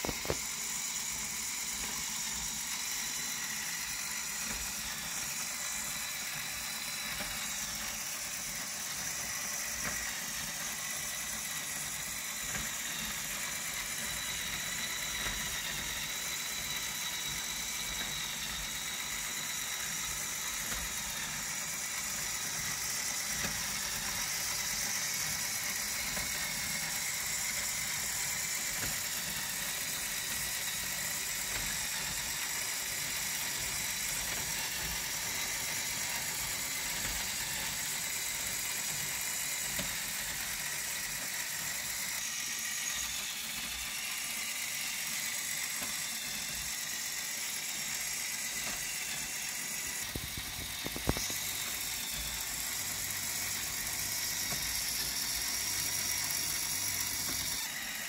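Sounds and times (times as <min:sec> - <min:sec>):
plastic gears whirring: 0:00.0 - 0:58.0.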